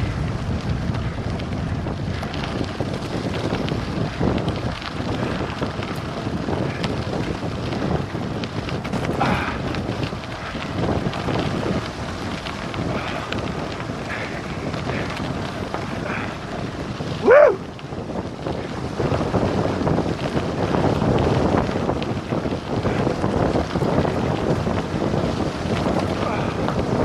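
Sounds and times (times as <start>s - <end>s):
bike tyres rumbling on gravel: 0.0s - 27.0s
wind buffeting the microphone: 0.0s - 27.0s.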